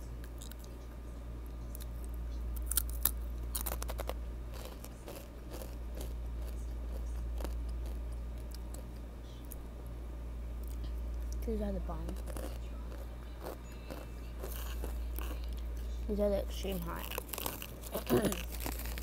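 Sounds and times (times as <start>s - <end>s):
steady low hum: 0.0s - 19.0s
crunching and chewing chips: 0.2s - 0.8s, 1.6s - 9.6s, 10.6s - 19.0s.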